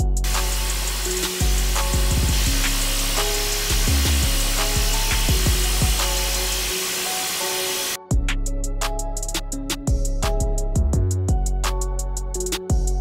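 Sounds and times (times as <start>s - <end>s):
background music with bass: 0.0s - 13.0s.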